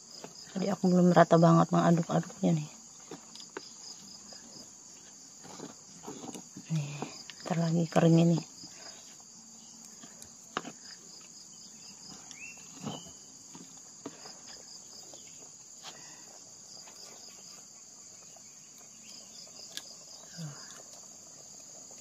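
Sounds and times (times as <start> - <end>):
insects chirping: 0.0 - 22.0
wood fire crackling: 0.0 - 22.0.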